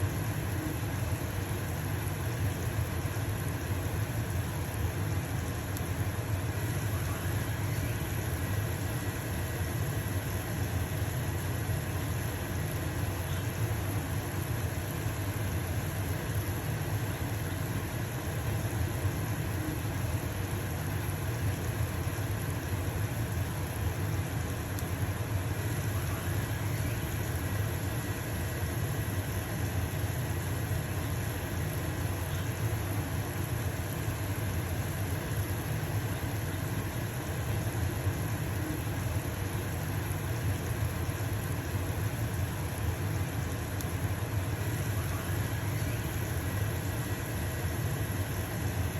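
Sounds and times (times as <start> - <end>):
pancake sizzling in a frying pan: 0.0 - 48.9
range hood fan humming: 0.0 - 48.9.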